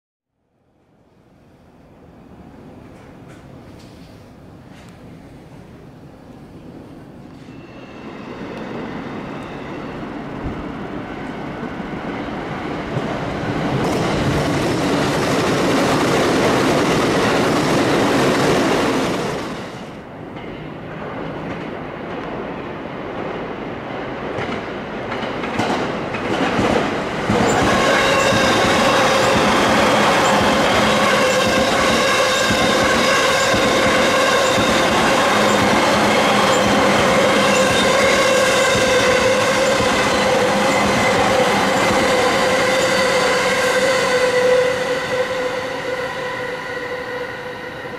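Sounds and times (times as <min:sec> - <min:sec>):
high train whine: 0:00.4 - 0:47.9
train rail and wheel noise: 0:00.6 - 0:47.9.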